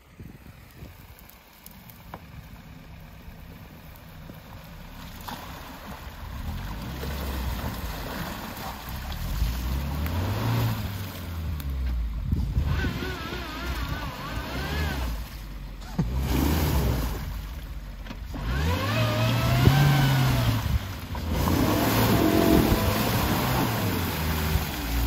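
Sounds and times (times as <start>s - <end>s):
engine working under load: 0.0s - 25.0s
wheels churning mud and water: 0.0s - 25.0s.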